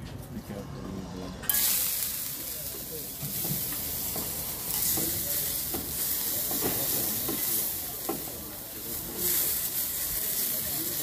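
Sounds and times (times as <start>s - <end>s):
tomato slices sizzling on griddle: 1.5s - 11.0s.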